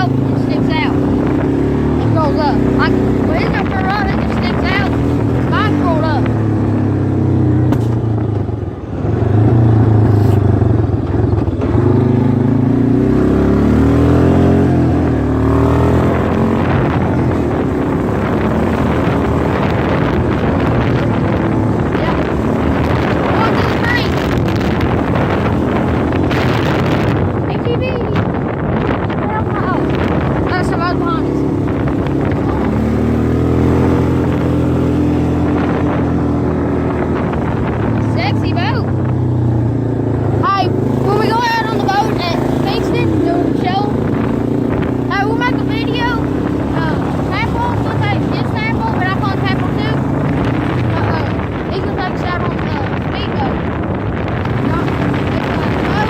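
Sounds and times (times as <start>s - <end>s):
motor engine running: 0.0s - 56.0s
wind noise on microphone: 0.0s - 56.0s.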